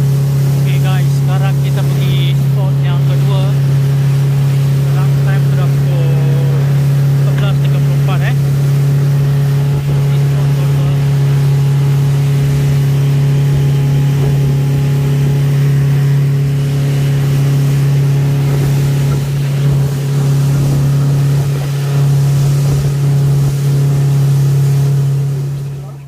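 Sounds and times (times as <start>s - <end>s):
motorboat engine drone: 0.0s - 26.0s
spray hissing along hull: 0.0s - 26.0s.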